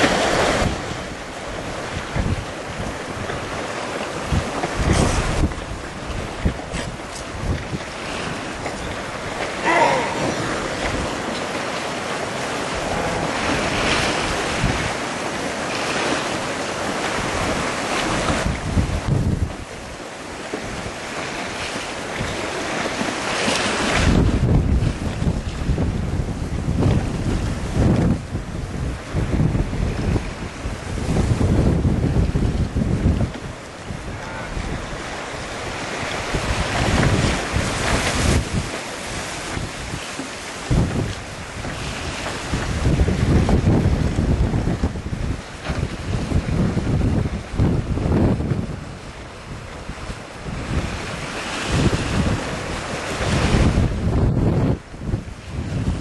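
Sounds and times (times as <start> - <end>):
choppy water splashing: 0.0 - 56.0
wind blowing across microphone: 0.0 - 56.0.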